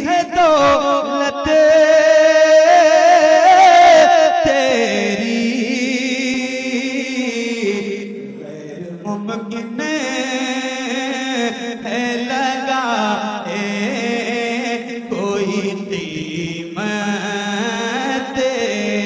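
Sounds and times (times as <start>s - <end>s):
man singing devotional verse: 0.0s - 19.0s.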